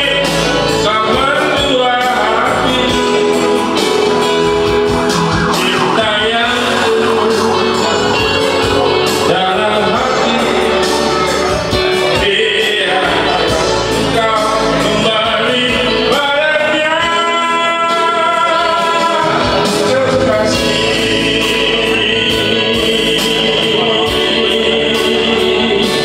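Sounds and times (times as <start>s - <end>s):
amplified backing music: 0.0s - 26.0s
man singing into a microphone: 0.0s - 26.0s.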